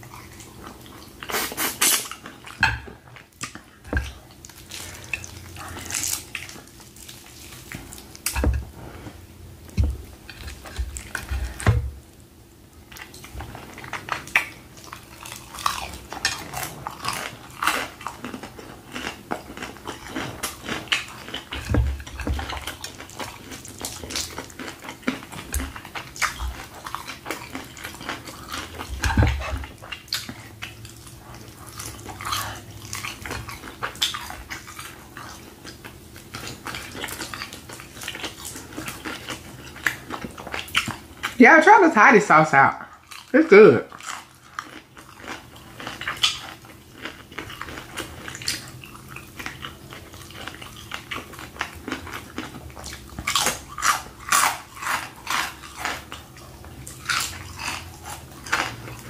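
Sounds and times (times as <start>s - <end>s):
crunching and wet chewing: 0.0s - 41.4s, 42.8s - 59.0s.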